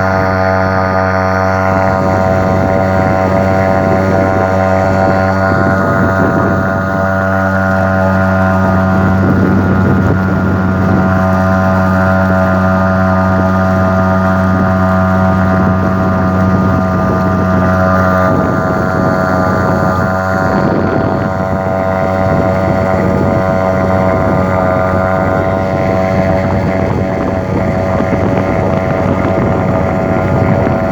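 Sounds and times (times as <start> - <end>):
outboard motor running: 0.0 - 30.9.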